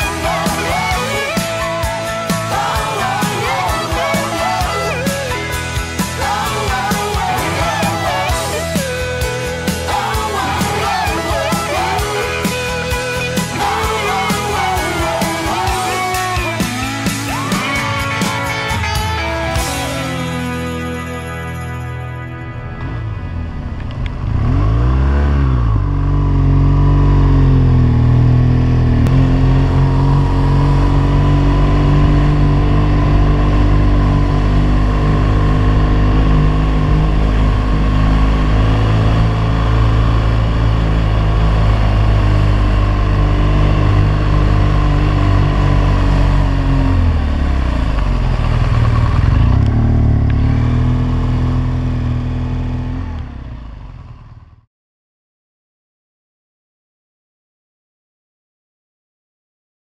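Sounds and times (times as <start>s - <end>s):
motorcycle engine running: 0.0s - 21.8s, 22.8s - 54.7s.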